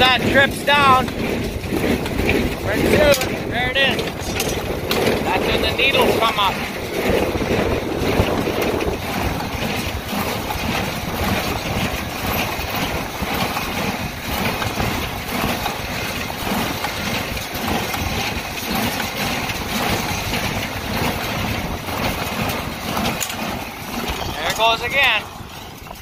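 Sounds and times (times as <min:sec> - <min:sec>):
baler running: 0:00.0 - 0:26.0
tractor engine: 0:00.0 - 0:26.0
wind buffeting microphone: 0:00.0 - 0:26.0.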